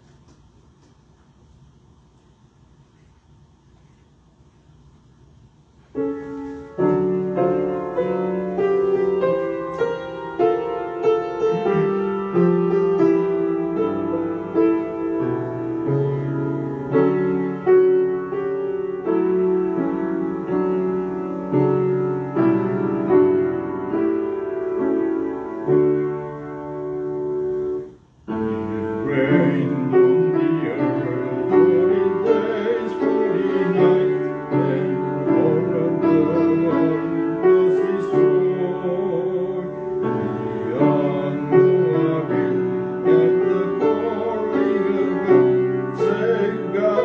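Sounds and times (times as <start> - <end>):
piano playing hymn chords: 5.9 - 47.0.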